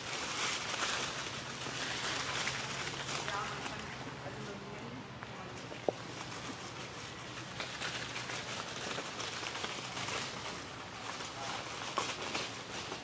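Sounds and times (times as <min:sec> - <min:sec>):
dry leaves crackling underfoot: 0:00.0 - 0:13.0.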